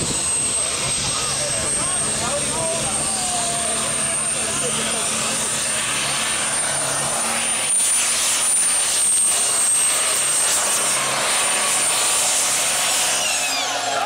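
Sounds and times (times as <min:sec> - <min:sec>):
diesel engine running flat out: 0:00.0 - 0:14.0
high turbo whine: 0:00.0 - 0:14.0.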